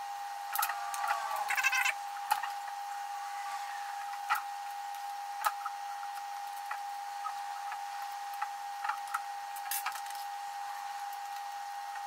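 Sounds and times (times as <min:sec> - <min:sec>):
steady high-pitched hum: 0:00.0 - 0:12.0.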